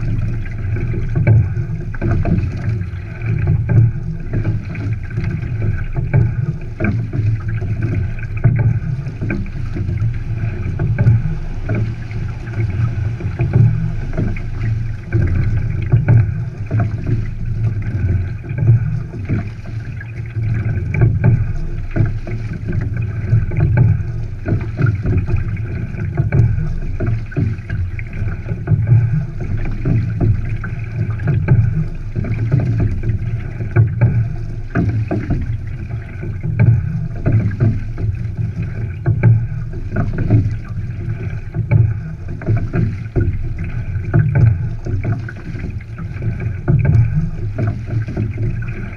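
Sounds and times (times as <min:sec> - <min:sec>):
water rushing along hull: 0:00.0 - 0:48.9
wind on microphone: 0:00.0 - 0:48.9.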